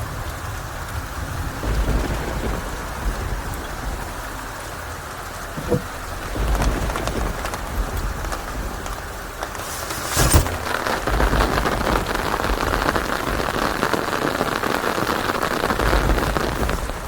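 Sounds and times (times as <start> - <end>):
heavy rain pattering: 0.0 - 17.0
thunder rumbling: 0.0 - 17.0
sharp thunder crack: 1.2 - 4.6, 5.4 - 17.0.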